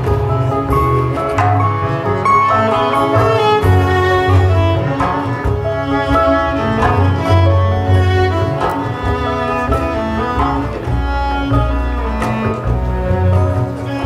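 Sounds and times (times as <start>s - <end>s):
fiddle bowing: 0.0s - 14.0s
guitar: 0.0s - 14.0s
mandolin: 0.0s - 14.0s
plucked upright bass: 0.0s - 14.0s.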